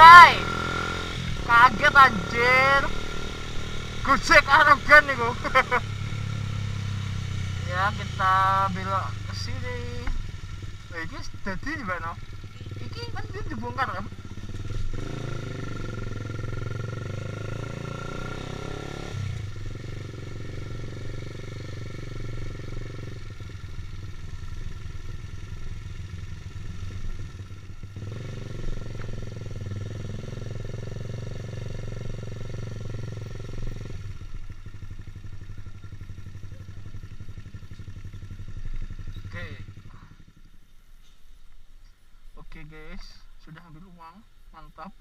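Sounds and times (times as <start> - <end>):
motorcycle engine running: 0.0 - 41.7.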